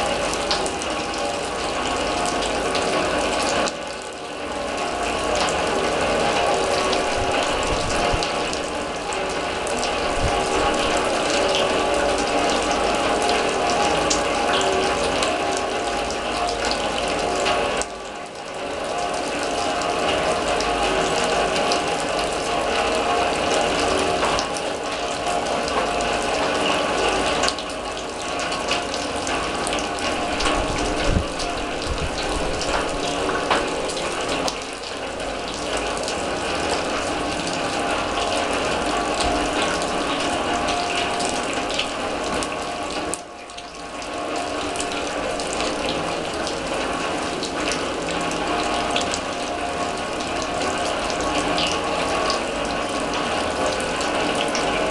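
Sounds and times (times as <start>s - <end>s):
rain on a steel drum: 0.0s - 54.9s.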